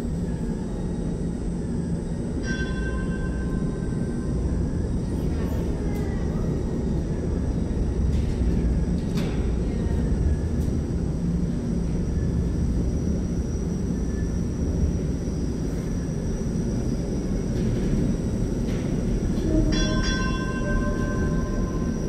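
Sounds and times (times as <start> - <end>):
streetcar rumbling: 0.0 - 22.0.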